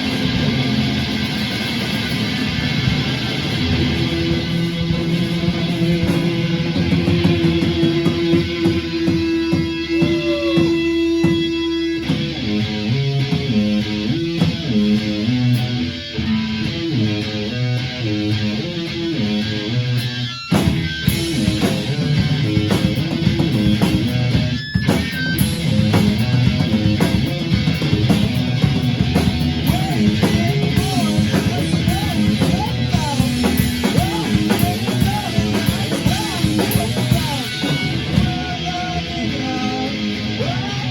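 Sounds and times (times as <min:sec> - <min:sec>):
rock band music: 0:00.0 - 0:40.9.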